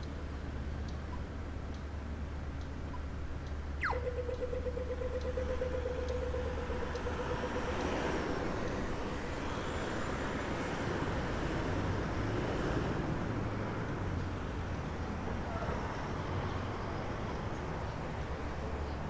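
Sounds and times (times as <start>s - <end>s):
crossing signal rapid ticking: 0.0s - 15.5s
street traffic: 0.0s - 19.0s.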